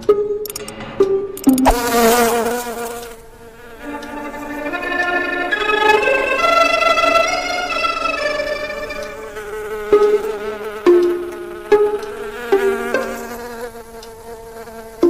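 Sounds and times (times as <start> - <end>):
string music: 0.0 - 14.2
cartoon insect buzzing: 1.4 - 15.0.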